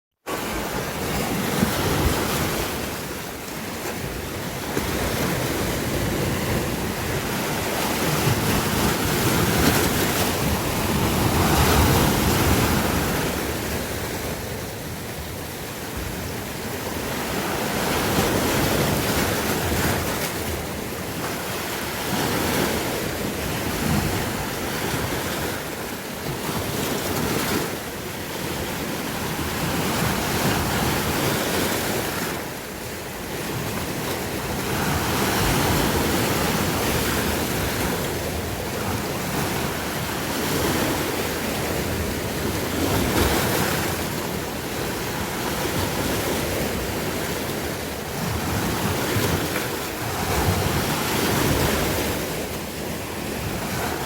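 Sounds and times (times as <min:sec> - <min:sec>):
sea waves washing on shore: 0:00.3 - 0:54.0
wind on microphone: 0:00.4 - 0:54.0.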